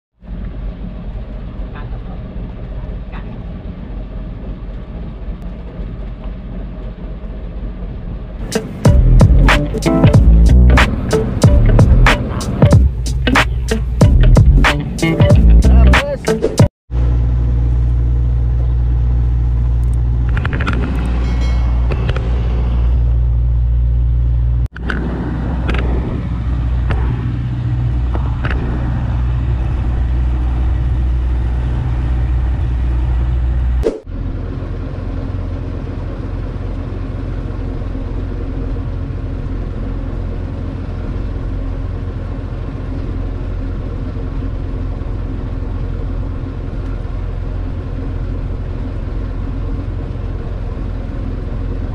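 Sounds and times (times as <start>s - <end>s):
boat engine droning: 0.2s - 16.0s, 16.9s - 51.9s.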